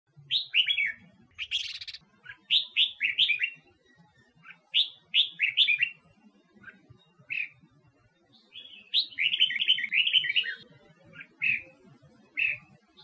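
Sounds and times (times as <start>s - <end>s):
bird whistling song: 0.2s - 6.0s, 6.6s - 7.6s, 8.4s - 11.8s, 12.4s - 13.0s.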